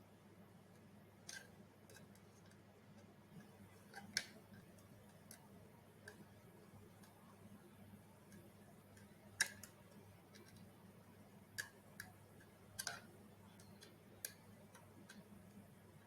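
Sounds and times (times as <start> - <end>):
faint steady hum: 0.0 - 16.0
light clicks and taps of parts: 0.7 - 7.5, 8.2 - 10.7, 11.5 - 16.0.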